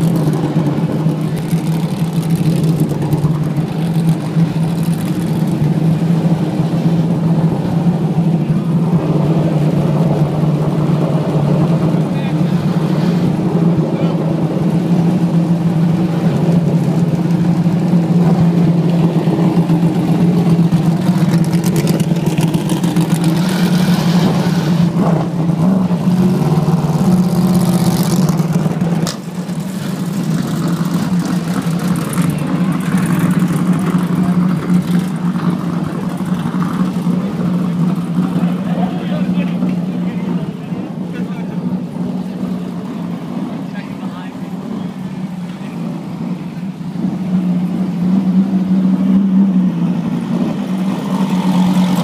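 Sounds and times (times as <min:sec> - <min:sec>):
race car engines idling: 0:00.0 - 0:52.0.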